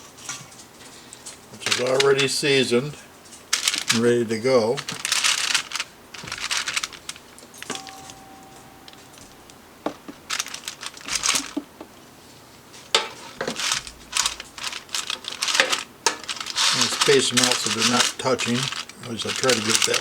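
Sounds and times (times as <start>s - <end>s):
parchment paper crinkling: 0.9s - 8.2s, 8.9s - 11.8s, 12.8s - 20.0s.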